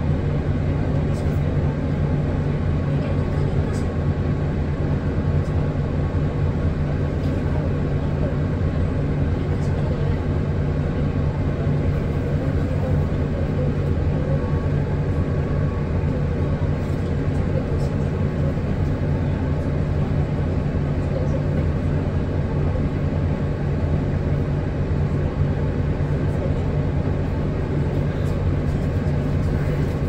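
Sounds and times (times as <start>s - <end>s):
bus drive-train drone: 0.0s - 30.0s
road and cabin rumble: 0.0s - 30.0s.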